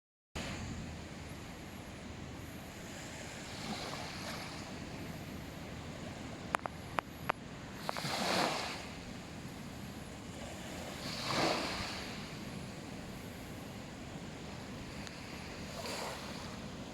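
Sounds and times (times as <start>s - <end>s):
small waves washing onto beach: 0.4s - 16.9s.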